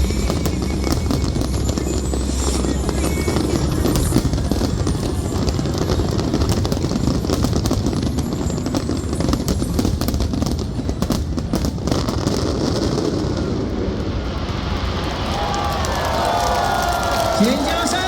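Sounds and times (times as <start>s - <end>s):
low rumble of firework bursts: 0.0s - 18.0s
sharp firework crackles: 0.0s - 18.0s.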